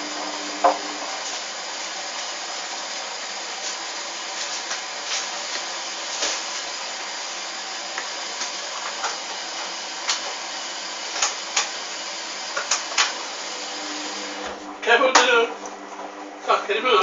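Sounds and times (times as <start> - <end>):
washing machine whirring: 0.0 - 17.0.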